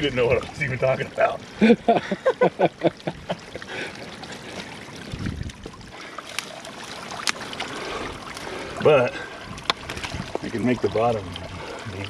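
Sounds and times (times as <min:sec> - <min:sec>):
trickling water: 0:00.0 - 0:12.0.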